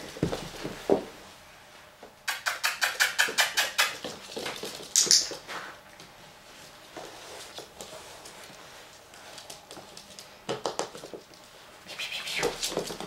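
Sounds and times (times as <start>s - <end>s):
puppy claws pattering on floor: 2.3s - 13.0s.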